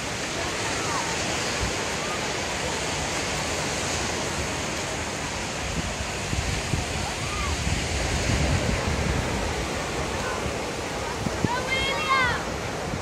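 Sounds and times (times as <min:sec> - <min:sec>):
sea surf rushing: 0:00.0 - 0:13.0.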